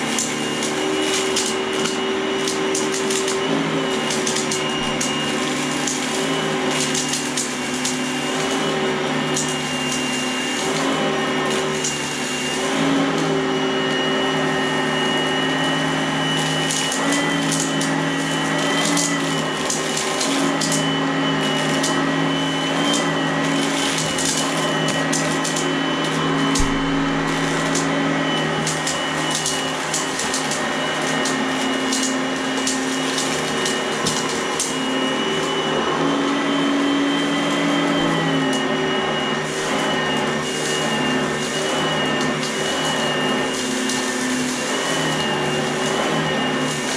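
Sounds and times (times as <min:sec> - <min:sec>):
vacuum cleaner motor whine: 0:00.0 - 0:46.9.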